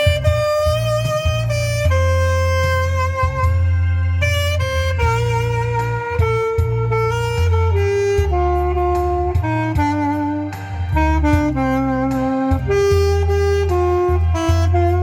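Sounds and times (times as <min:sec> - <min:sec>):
backing track with bass: 0:00.0 - 0:15.0
saxophone slow melody: 0:00.0 - 0:15.0.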